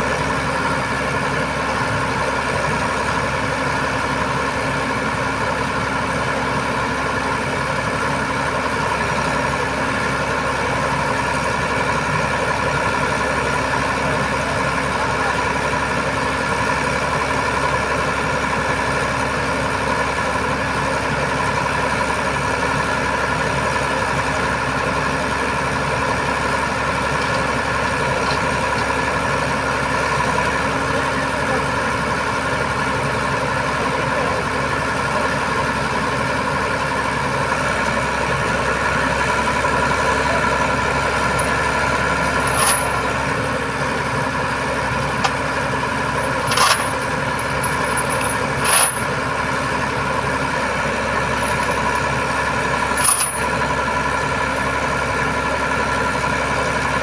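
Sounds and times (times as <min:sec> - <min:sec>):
heavy truck engine running: 0:00.0 - 0:57.0.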